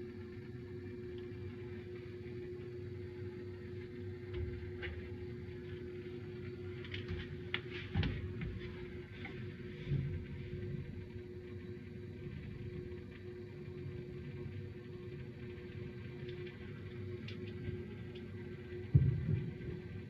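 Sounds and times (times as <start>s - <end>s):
torch flame rumbling: 3.0s - 20.0s.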